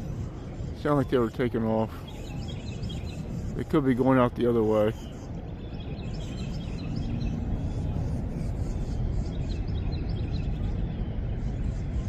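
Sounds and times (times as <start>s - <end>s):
distant airplane rumble: 0.0s - 12.0s
small birds chirping: 0.0s - 12.0s.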